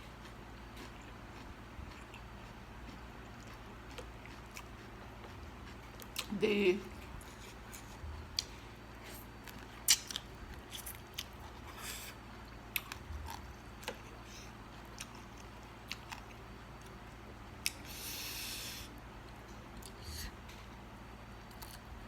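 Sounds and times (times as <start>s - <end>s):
person chewing and crunching: 0.0s - 6.3s, 6.9s - 18.9s, 21.4s - 21.9s.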